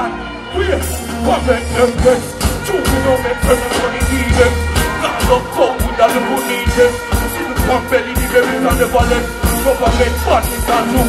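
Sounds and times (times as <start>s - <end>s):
loud band music: 0.0s - 11.0s.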